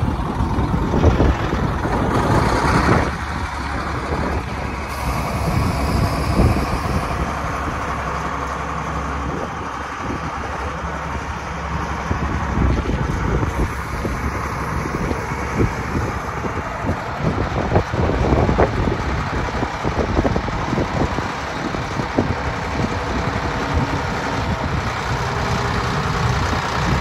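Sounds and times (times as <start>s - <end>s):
tractor diesel engine idling: 0.0s - 27.0s.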